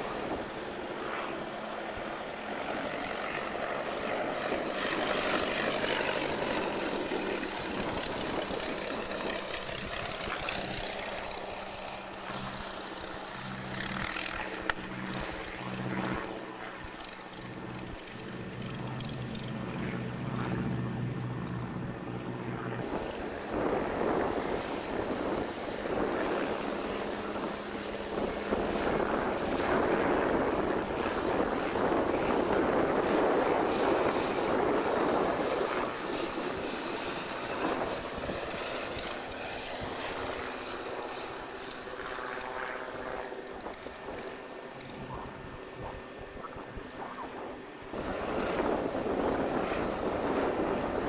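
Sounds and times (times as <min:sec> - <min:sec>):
aircraft passing overhead: 0:00.0 - 0:51.0
biplane engine drone: 0:00.0 - 0:51.0.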